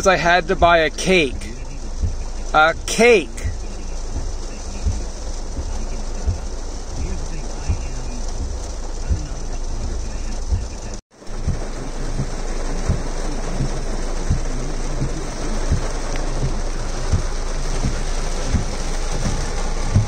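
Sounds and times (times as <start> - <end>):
heavy rain on car roof: 0.0 - 20.0
large raindrops thudding: 0.0 - 20.0.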